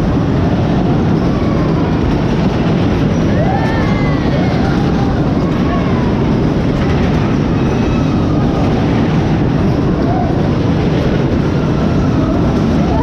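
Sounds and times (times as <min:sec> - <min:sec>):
amusement ride rumbling: 0:00.0 - 0:13.0.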